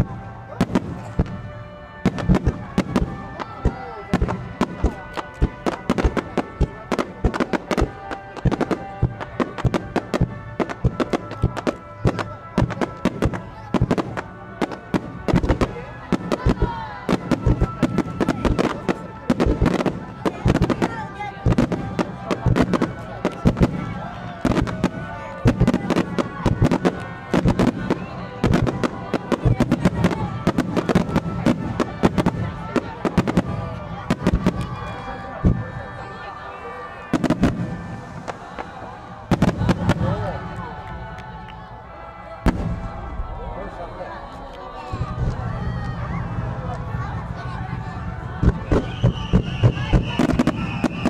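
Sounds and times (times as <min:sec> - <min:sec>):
fireworks bursting: 0:00.0 - 0:41.7, 0:42.3 - 0:51.0
music: 0:00.0 - 0:51.0.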